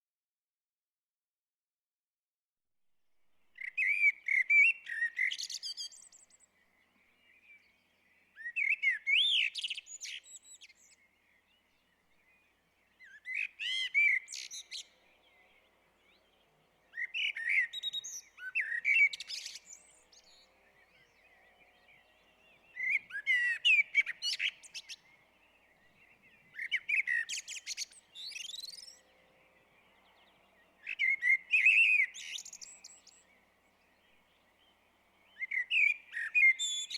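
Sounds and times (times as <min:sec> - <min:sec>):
blackbird singing: 0:03.6 - 0:36.9.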